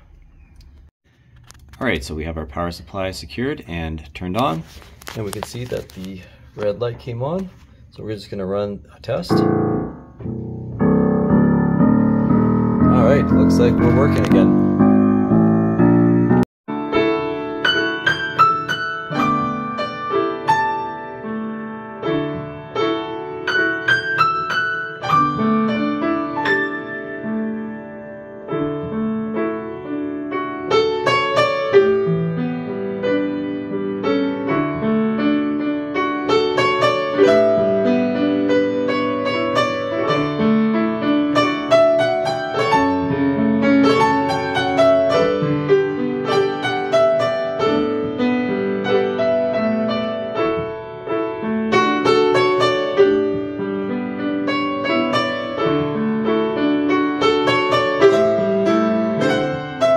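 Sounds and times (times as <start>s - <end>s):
self-playing piano piece: 9.3s - 59.9s.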